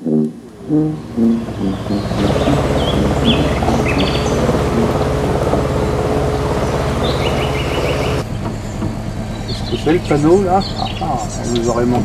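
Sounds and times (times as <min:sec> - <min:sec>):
steady low hum: 0:00.0 - 0:12.0
small birds chirping: 0:00.4 - 0:12.0.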